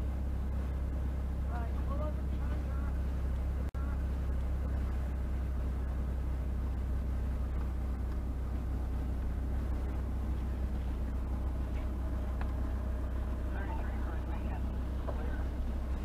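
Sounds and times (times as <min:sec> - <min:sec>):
car engine rumble in cabin: 0:00.0 - 0:16.0
faint road noise: 0:00.0 - 0:16.0.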